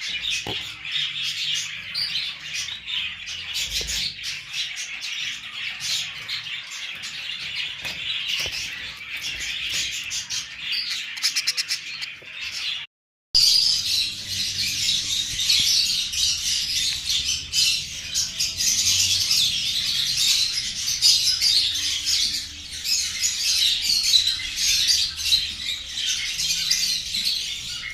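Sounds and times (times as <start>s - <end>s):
birds chirping and squawking: 0.0s - 27.9s.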